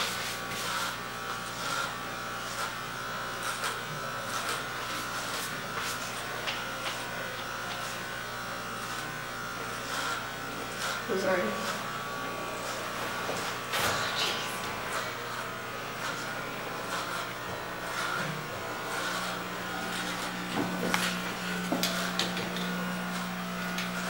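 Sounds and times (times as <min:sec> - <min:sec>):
clipper blades rasping through hair: 0:00.0 - 0:24.0
electric hair clippers buzzing: 0:00.0 - 0:24.0.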